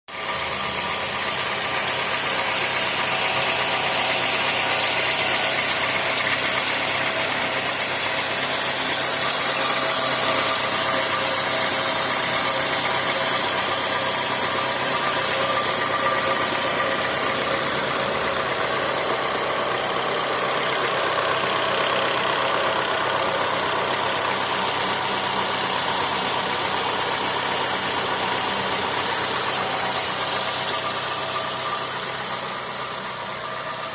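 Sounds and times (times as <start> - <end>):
car engine idling with knock: 0.1 - 33.9.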